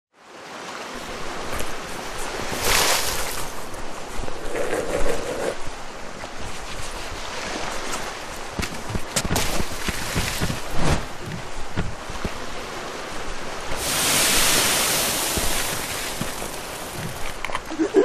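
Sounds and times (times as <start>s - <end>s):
surf washing on beach: 0.2s - 18.0s.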